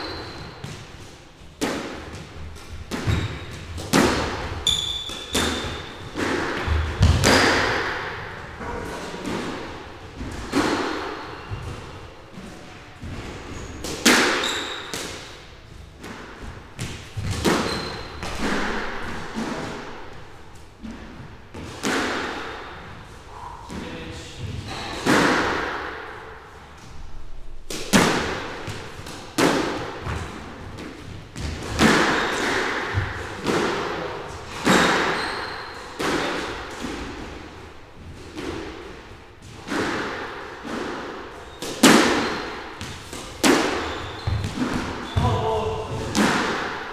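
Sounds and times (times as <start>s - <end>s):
squash ball hits echoing: 0.0s - 23.0s, 23.6s - 27.0s, 27.6s - 46.9s.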